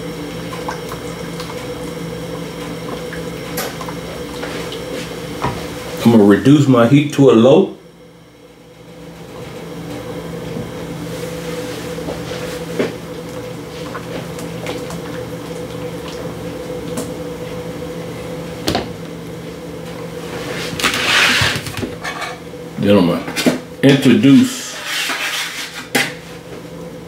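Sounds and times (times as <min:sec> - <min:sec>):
kitchen appliance hum: 0:00.0 - 0:27.0.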